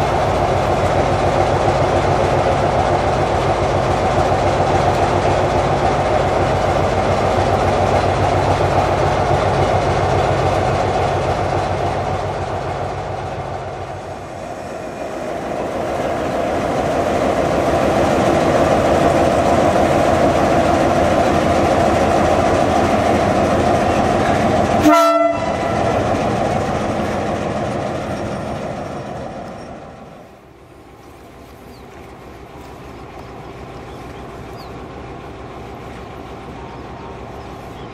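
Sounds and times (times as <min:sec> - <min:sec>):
diesel locomotive running: 0:00.0 - 0:37.9.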